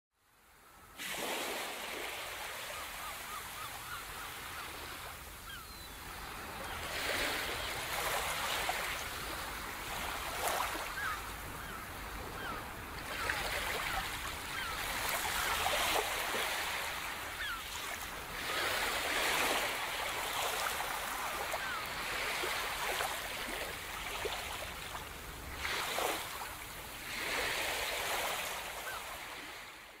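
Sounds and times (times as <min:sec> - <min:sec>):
sea waves breaking on beach: 0:00.9 - 0:30.0.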